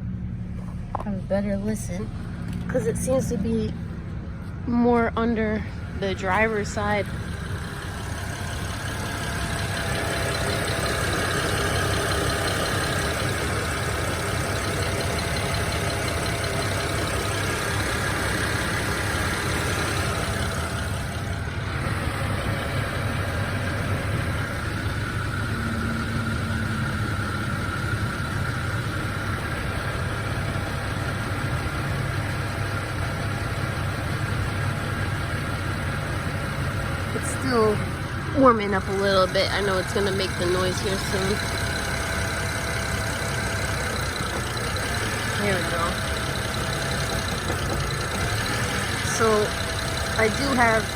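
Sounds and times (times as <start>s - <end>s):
car engine idling roughly: 0.0s - 50.9s.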